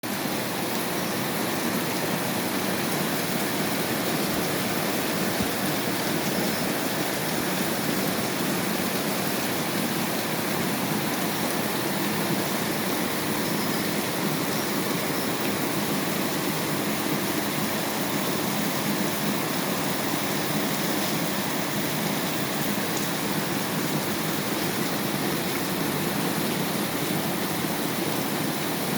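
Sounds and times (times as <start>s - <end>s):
rain falling steadily: 0.0s - 28.9s.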